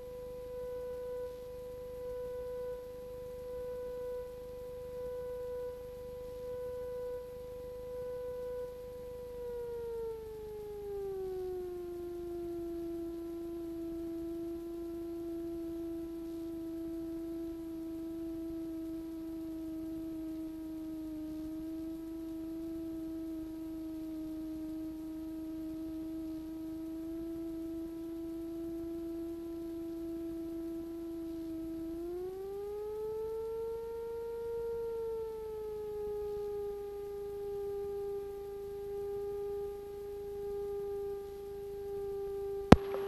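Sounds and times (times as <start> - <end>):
light aircraft engine whine: 0.0 - 43.0.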